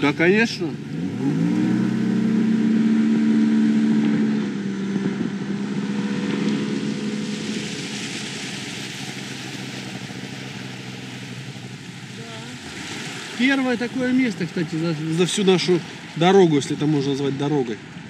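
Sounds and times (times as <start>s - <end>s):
boat engine running high: 0.0s - 18.0s.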